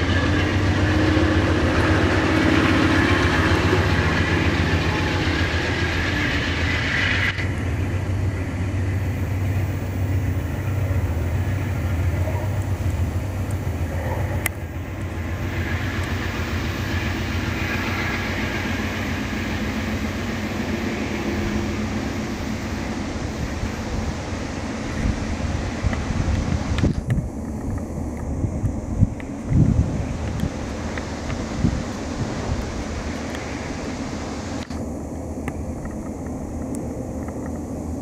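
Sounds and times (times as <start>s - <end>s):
low train rumble: 0.0s - 38.0s
train wheels on rails: 0.0s - 38.0s.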